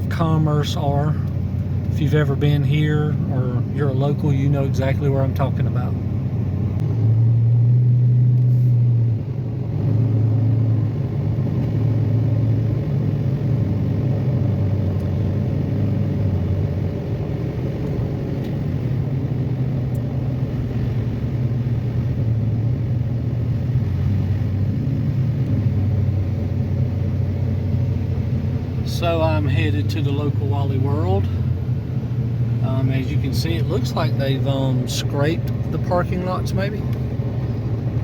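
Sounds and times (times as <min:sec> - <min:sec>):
car engine drone: 0:00.0 - 0:38.0
road noise: 0:00.0 - 0:38.0.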